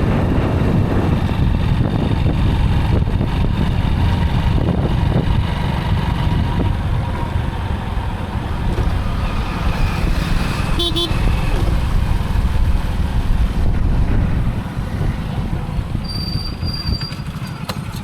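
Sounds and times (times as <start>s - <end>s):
wind buffeting microphone: 0.0s - 17.9s
motorcycle engine running: 0.0s - 18.0s.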